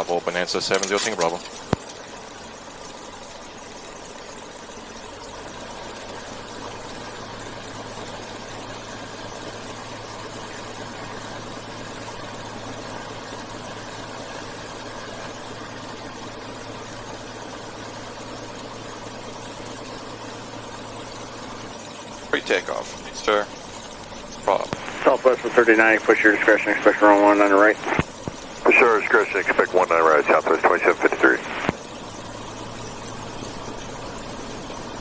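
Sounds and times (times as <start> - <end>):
propeller plane engine droning: 0.0 - 35.0.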